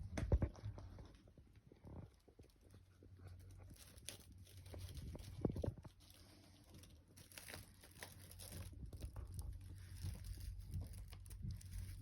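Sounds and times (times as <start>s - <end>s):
cat crunching and chewing: 0.2s - 12.0s.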